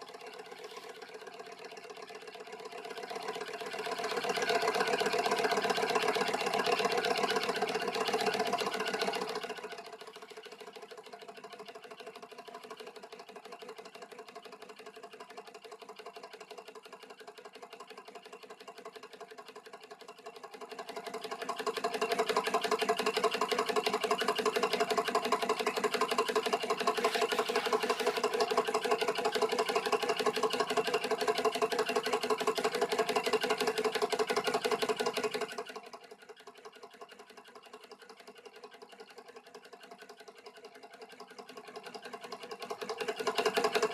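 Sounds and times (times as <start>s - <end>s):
engine mechanical clatter: 0.0s - 43.9s.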